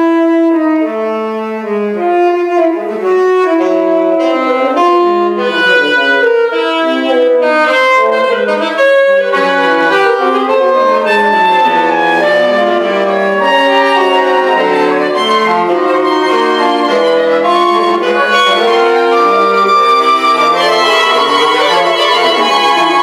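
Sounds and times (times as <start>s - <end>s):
saxophone quartet playing: 0.0s - 23.0s.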